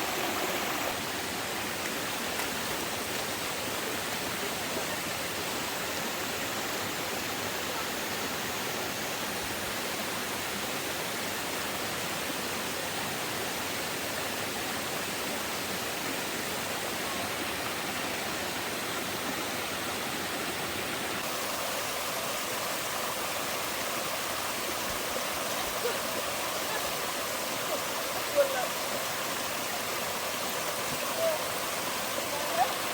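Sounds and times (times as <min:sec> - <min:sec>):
water rushing: 0:00.0 - 0:32.9.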